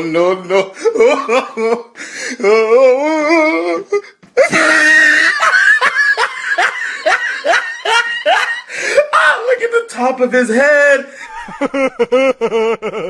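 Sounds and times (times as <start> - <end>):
person laughing hard: 0.6 - 9.3, 11.2 - 13.0.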